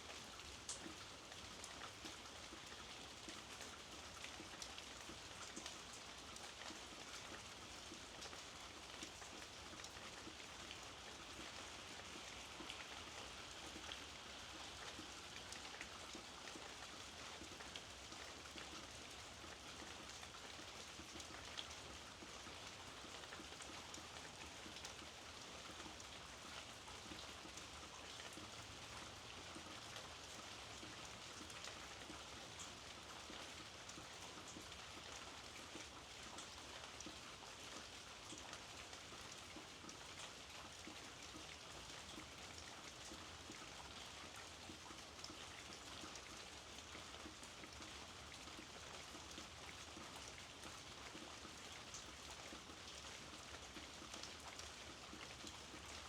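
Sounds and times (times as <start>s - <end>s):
raindrops ticking on surface: 0.0s - 56.0s
steady rain hiss: 0.0s - 56.0s.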